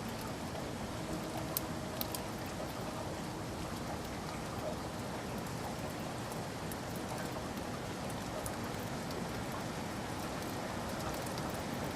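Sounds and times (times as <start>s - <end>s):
steady rain hiss: 0.0s - 11.9s.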